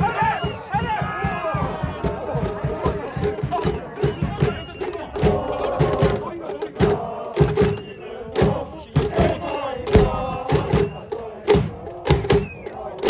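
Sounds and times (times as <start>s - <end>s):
crowd chanting and shouting: 0.0s - 13.0s
drum thumps: 0.0s - 13.0s.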